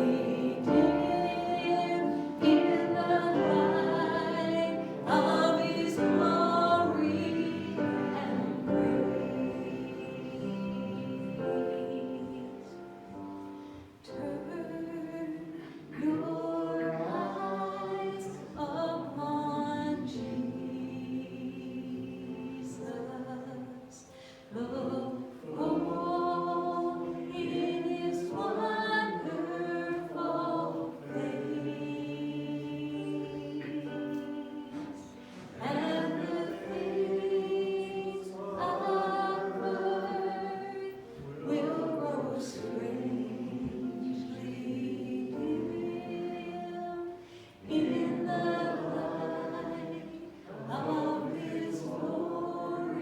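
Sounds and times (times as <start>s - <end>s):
congregation singing a hymn: 0.0s - 53.0s.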